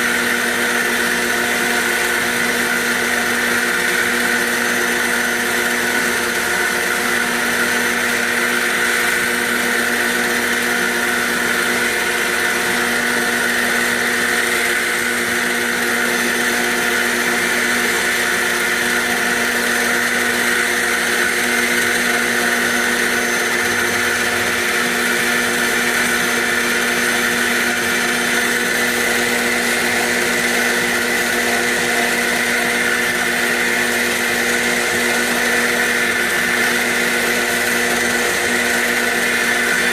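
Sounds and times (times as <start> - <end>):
machine spindle whine: 0.0 - 39.9.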